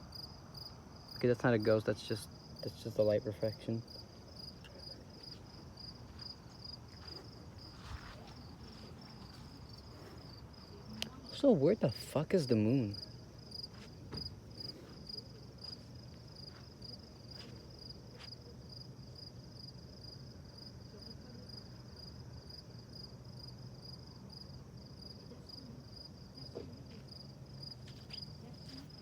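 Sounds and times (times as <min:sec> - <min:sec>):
crickets chirping: 0:00.0 - 0:29.0
faint low hum: 0:00.0 - 0:29.0.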